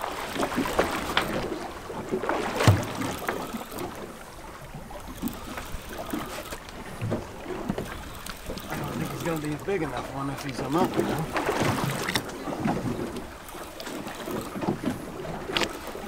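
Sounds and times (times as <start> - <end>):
water slapping against boat hull: 0.0 - 16.0.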